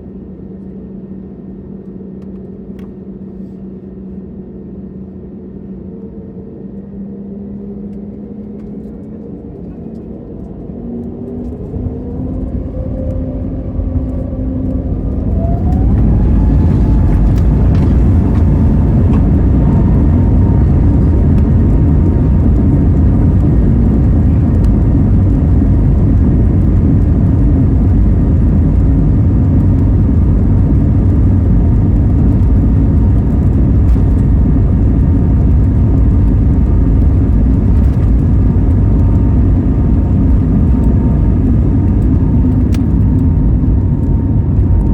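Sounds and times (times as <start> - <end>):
jet engines roaring: 8.5 - 44.9.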